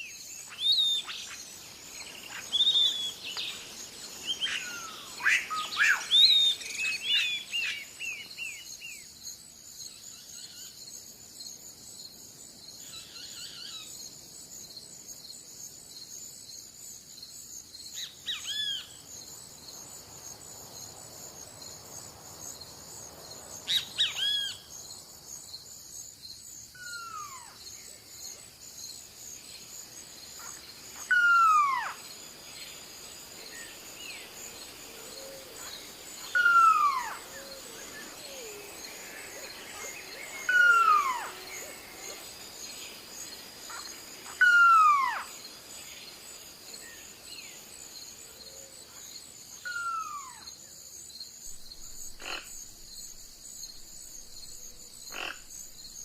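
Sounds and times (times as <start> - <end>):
insects chorus pulsing: 0.0 - 56.0.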